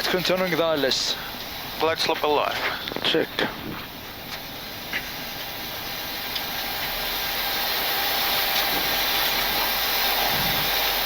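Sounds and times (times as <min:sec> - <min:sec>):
aircraft engine noise: 0:00.0 - 0:11.0.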